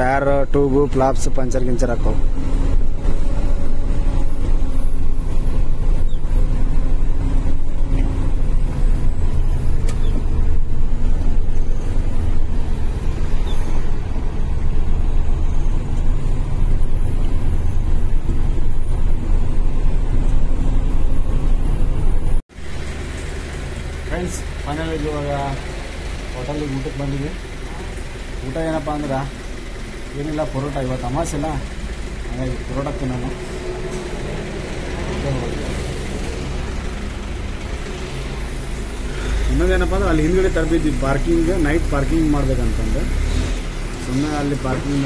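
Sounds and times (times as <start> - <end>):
truck engine deep drone: 0.0 - 45.0.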